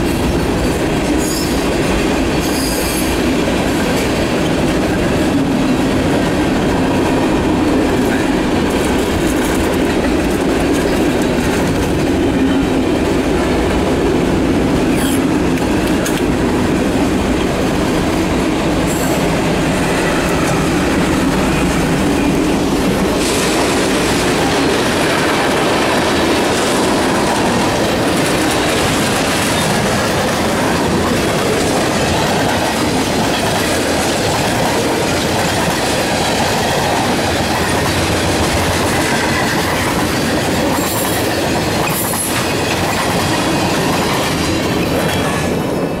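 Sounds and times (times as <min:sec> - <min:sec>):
freight train wheels clacking: 0:00.0 - 0:46.0.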